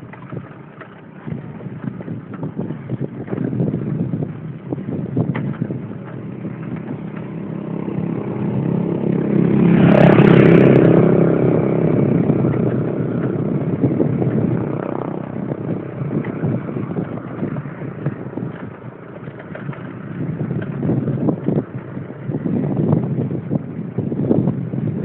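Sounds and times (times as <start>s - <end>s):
mountain bike rattling over trail: 0.0s - 25.0s
wind on microphone: 0.0s - 25.0s.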